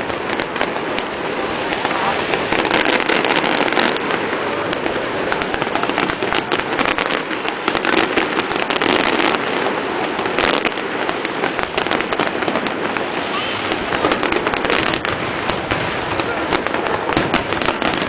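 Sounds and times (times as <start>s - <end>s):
fireworks popping and crackling: 0.0s - 18.0s.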